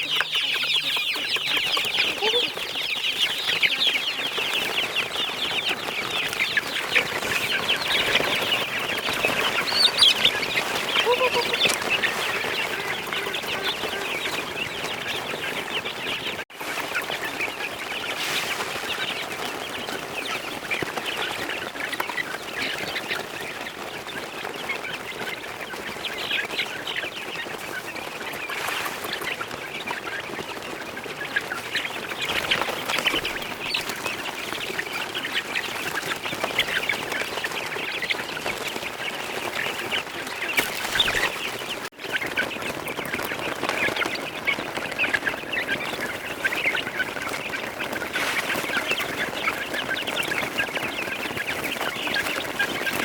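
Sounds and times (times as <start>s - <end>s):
chickens clucking: 0.0s - 53.0s
ducks quacking: 0.0s - 53.0s.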